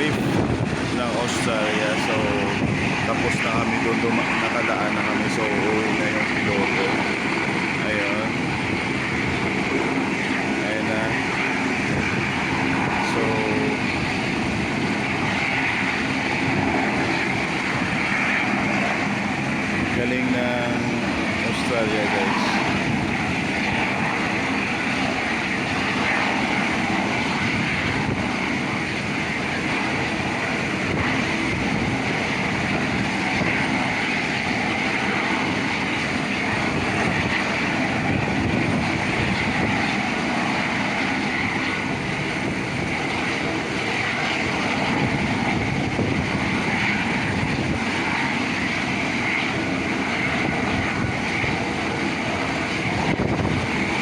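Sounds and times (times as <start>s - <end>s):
helicopter engine and rotor idling: 0.0s - 54.0s.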